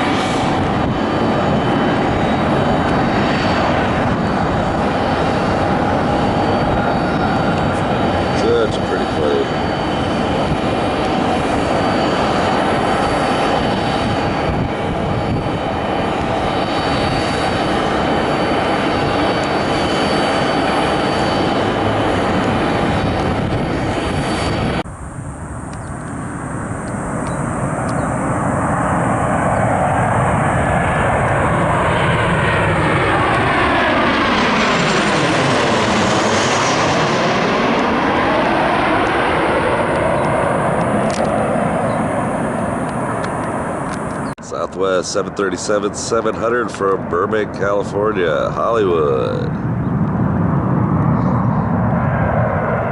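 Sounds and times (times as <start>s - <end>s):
jet engines whining: 0.0s - 52.9s
jet passing close: 0.0s - 52.9s.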